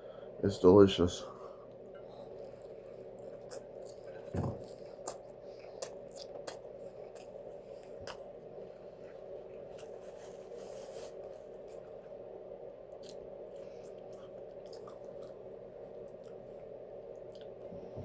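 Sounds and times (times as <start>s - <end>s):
steady low hum: 0.0s - 18.0s
chewing: 1.7s - 11.9s, 12.9s - 17.7s.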